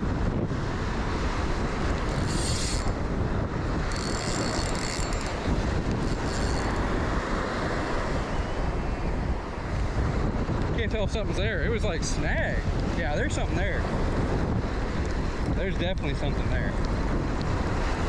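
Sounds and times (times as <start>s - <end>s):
surf washing on beach: 0.0s - 18.0s
wind buffeting microphone: 0.0s - 18.0s.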